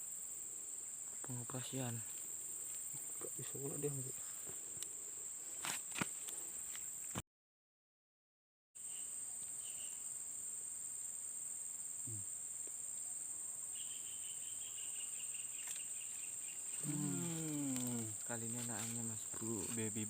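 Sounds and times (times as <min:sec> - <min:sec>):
insect chorus buzzing drone: 0:00.0 - 0:07.2, 0:08.8 - 0:20.0.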